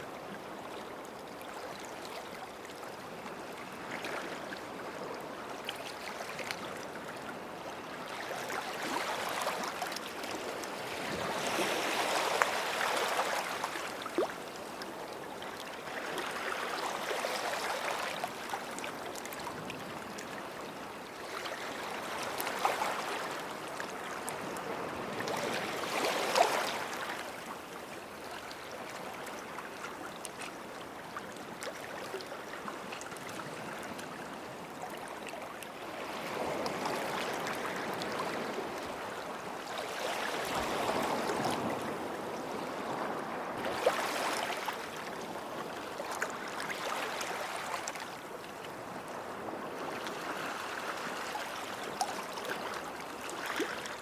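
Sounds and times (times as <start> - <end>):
small waves washing on shore: 0.4 - 54.0.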